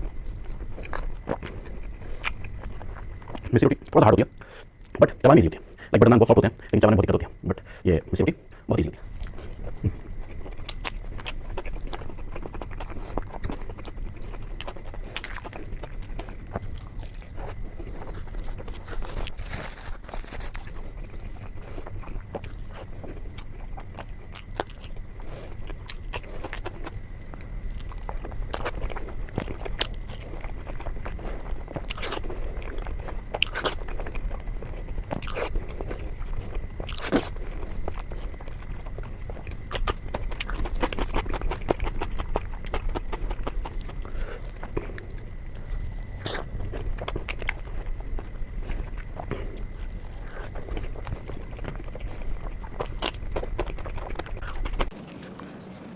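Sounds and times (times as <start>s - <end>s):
person chewing and biting: 0.0s - 3.5s, 9.0s - 55.9s
steady low hum: 0.0s - 55.9s.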